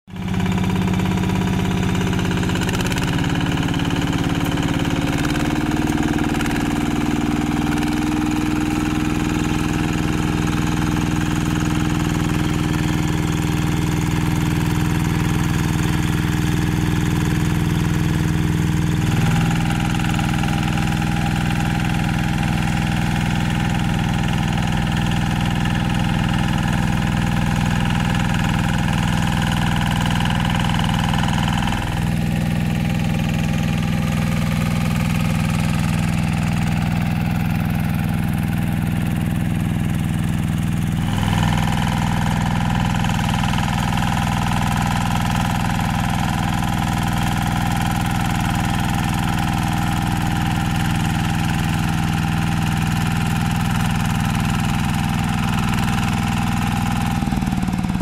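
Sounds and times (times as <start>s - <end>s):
diesel tractor engine running: 0.1s - 58.0s.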